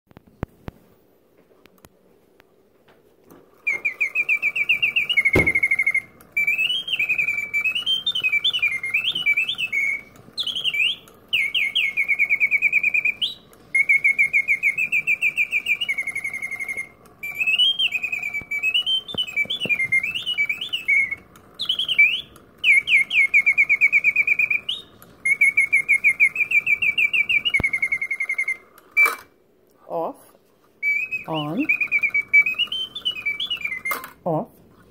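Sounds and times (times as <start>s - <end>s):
mechanical bird whistle chirping: 3.6s - 29.4s, 30.8s - 34.2s.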